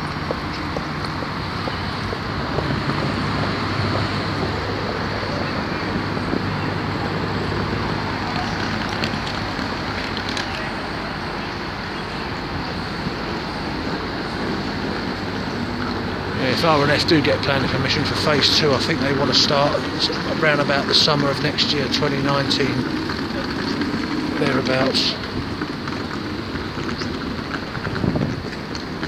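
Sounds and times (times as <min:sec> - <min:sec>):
low engine hum: 0:00.0 - 0:29.0
road traffic: 0:00.0 - 0:29.0.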